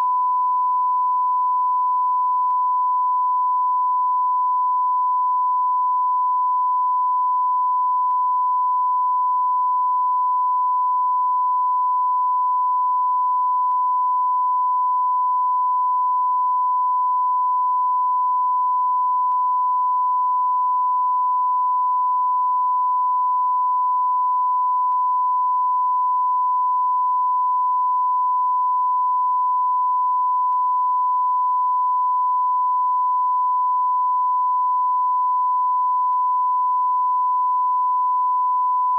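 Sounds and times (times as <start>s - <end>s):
continuous pure beep tone: 0.0s - 38.9s.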